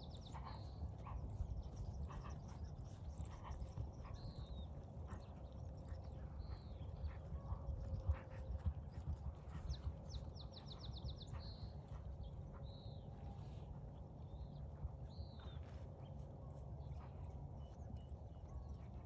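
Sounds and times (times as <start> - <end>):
birds chirping: 0.0 - 19.0
wind rumble on microphone: 0.0 - 19.0.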